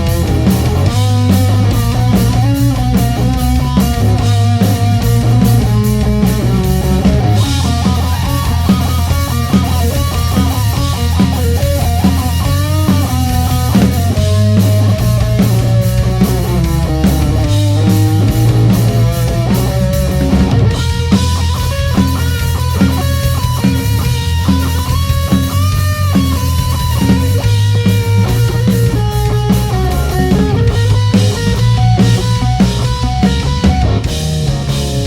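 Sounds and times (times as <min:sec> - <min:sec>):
bass guitar: 0:00.0 - 0:35.0
distorted electric guitars: 0:00.0 - 0:35.0
drum kit beat: 0:00.0 - 0:35.0.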